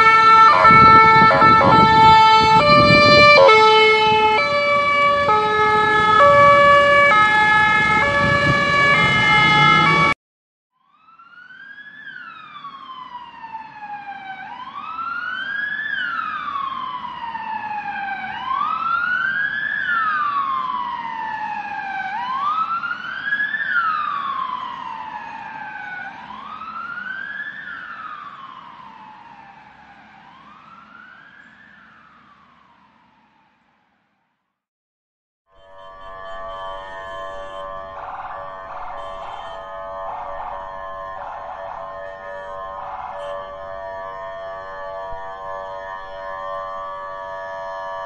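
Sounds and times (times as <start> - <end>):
distant ambulance siren wailing: 0.0 - 10.2, 10.8 - 34.2, 35.5 - 48.0.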